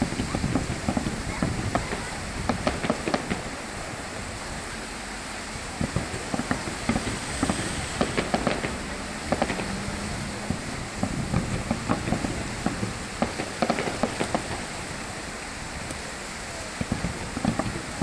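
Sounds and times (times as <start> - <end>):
background hiss: 0.0 - 18.0
distant fireworks bursting: 0.0 - 18.0.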